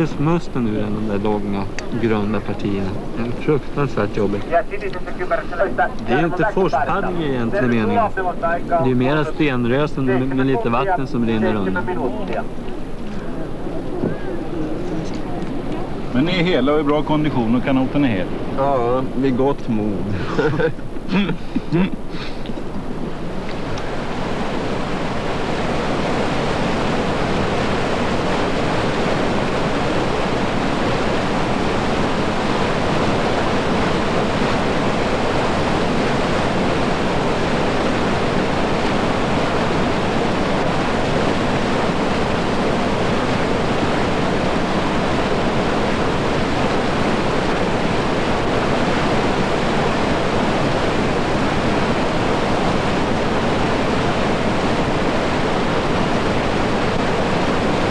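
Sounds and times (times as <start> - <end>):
river rapids rushing over rocks: 4.4 - 16.4, 22.0 - 57.9.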